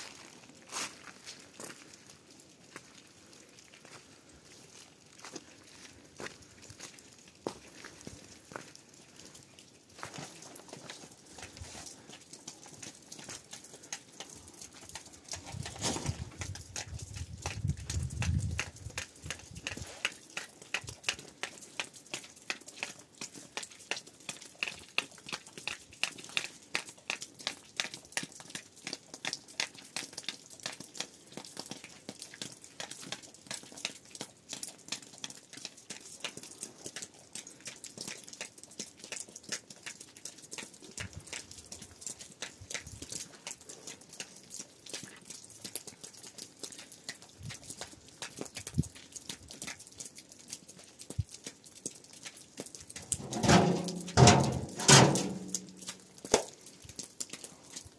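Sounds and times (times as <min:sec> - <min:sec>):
raindrops pattering on hard surfaces: 0:00.0 - 0:57.9.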